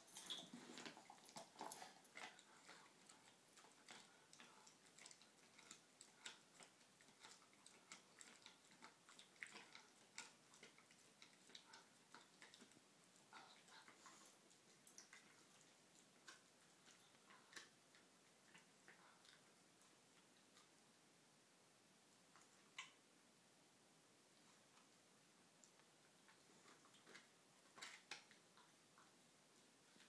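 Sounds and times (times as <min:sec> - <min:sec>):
dog chewing a treat: 0:00.0 - 0:20.8, 0:25.7 - 0:29.1.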